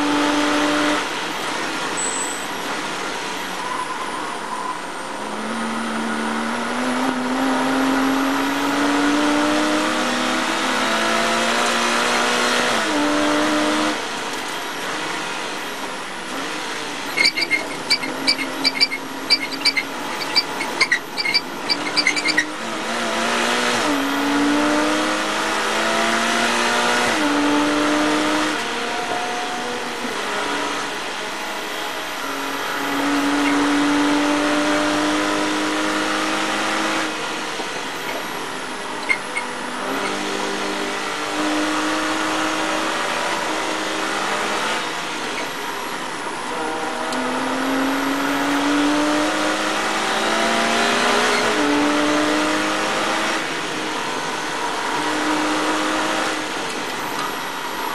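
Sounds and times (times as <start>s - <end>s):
race car engine accelerating: 0.0s - 57.9s.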